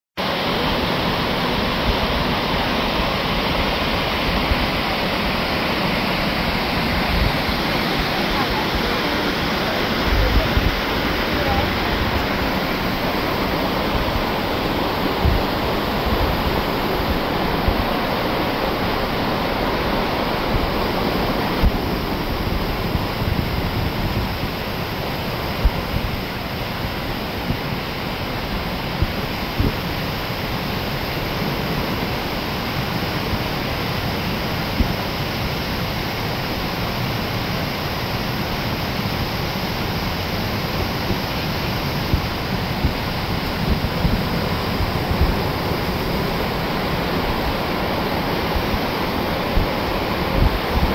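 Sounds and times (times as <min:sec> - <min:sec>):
creek rushing over rocks: 0:00.2 - 0:50.9.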